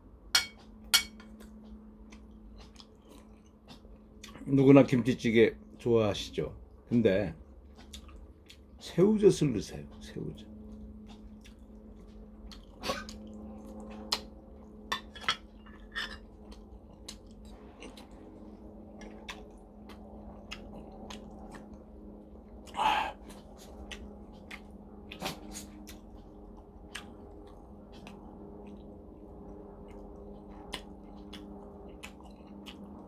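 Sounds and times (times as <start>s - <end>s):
faint hum: 0.0s - 33.0s
chewing and mouth noises: 0.6s - 5.8s, 7.4s - 8.8s, 9.8s - 33.0s.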